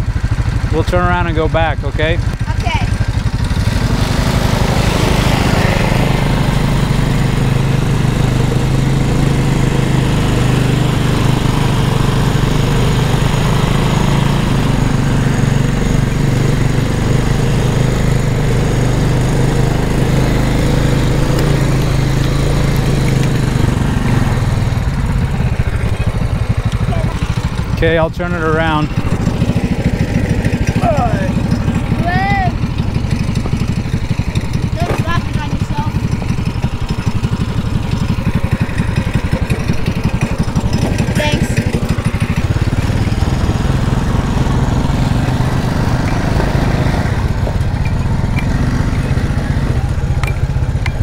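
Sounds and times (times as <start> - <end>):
go-kart engine running: 0.0 - 51.0.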